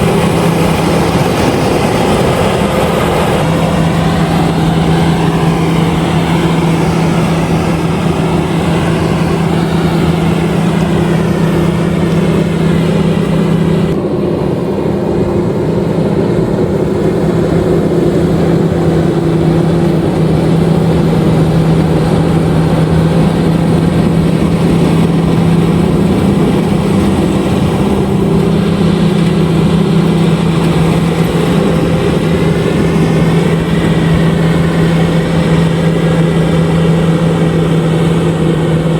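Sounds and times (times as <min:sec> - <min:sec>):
combine harvester engine drone: 0:00.0 - 0:38.9
machinery noise: 0:00.0 - 0:38.9.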